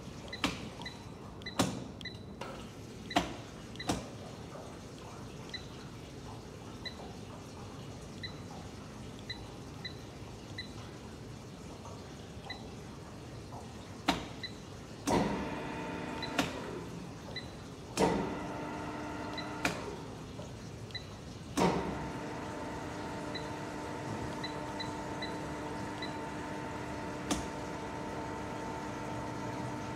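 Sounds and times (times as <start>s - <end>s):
machine-room noise: 0.0s - 29.9s.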